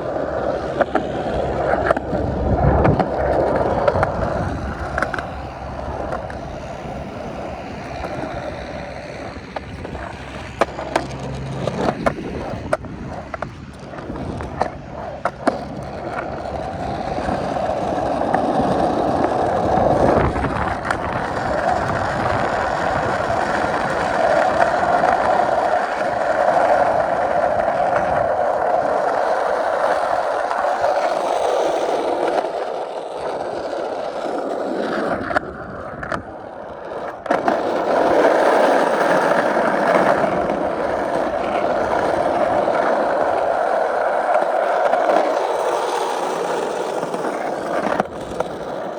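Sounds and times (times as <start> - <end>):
skateboard wheels rolling on pavement: 0.0 - 48.9.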